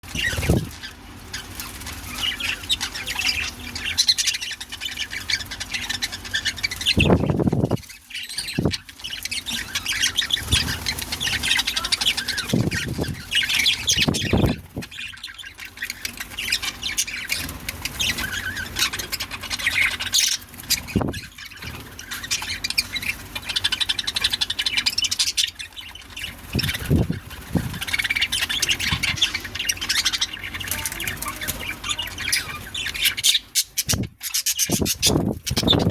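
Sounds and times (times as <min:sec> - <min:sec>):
budgerigars chattering and chirping: 0:00.0 - 0:35.9.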